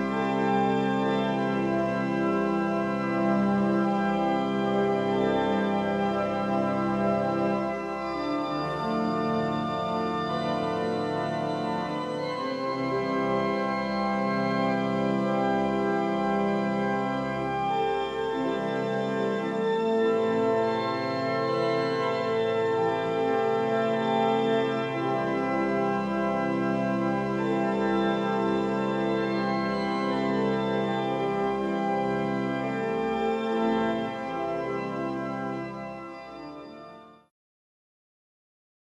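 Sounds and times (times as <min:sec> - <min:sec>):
organ chords: 0:00.0 - 0:37.3.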